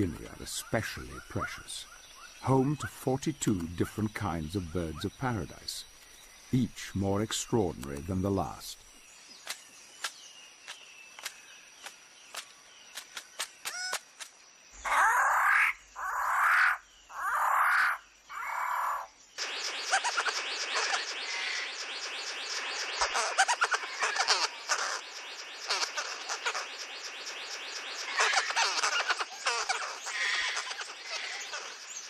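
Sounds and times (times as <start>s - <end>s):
chorus of bird chirps: 0.0s - 32.0s
loud bird calls: 0.0s - 32.0s.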